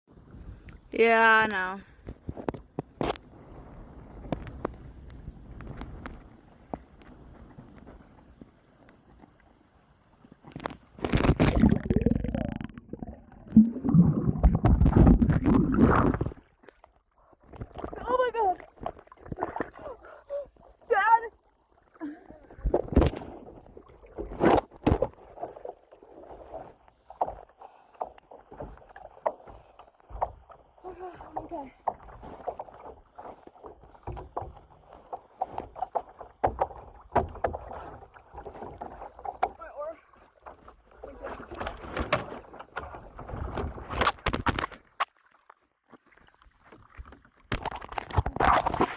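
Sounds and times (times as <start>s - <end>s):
water splashing and gurgling: 0.1s - 48.9s.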